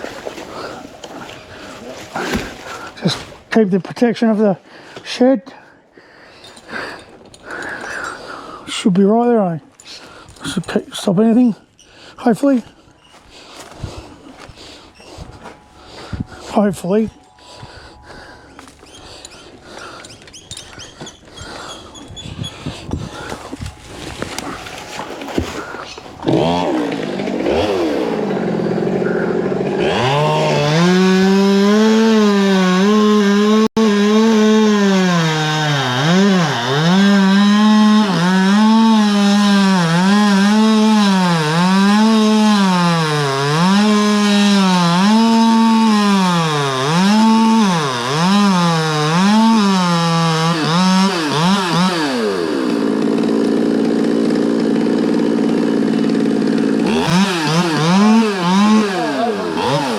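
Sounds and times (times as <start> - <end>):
chainsaw cutting wood: 0.0 - 3.4, 13.1 - 59.9.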